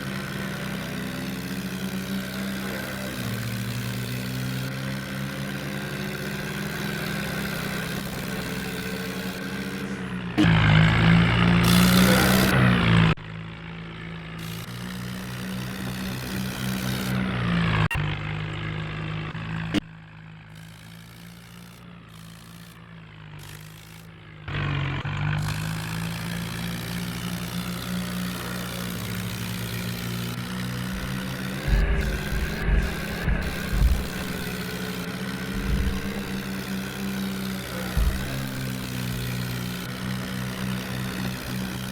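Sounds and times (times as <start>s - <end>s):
tractor engines running: 0.0s - 41.9s.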